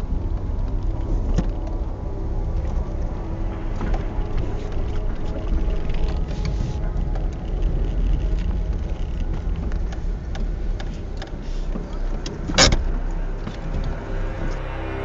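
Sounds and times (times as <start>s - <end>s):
small clicks and rattles: 0.0s - 14.1s
car engine and road rumble: 0.0s - 15.0s.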